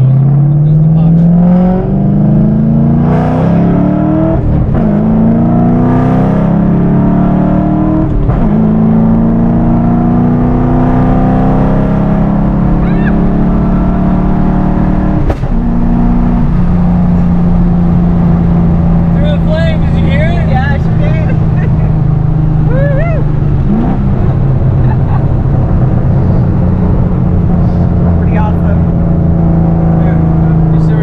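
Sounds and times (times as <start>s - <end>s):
car engine and exhaust from cabin: 0.0s - 31.0s.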